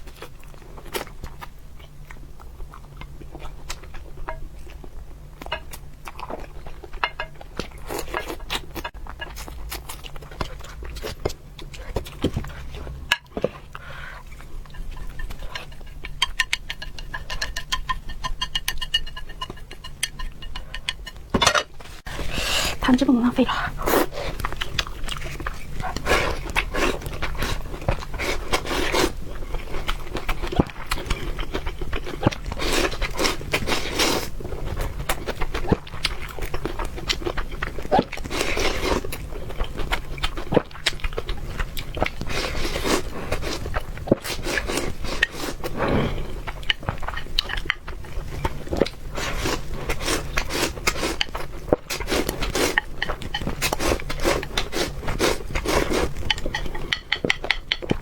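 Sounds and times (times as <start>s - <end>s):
person chewing food: 0.0s - 21.3s, 23.5s - 58.0s.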